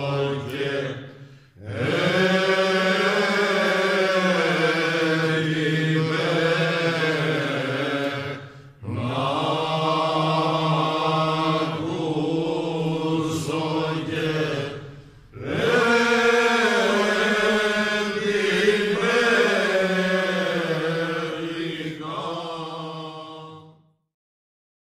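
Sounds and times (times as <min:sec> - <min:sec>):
men singing a cappella: 0:00.0 - 0:23.8.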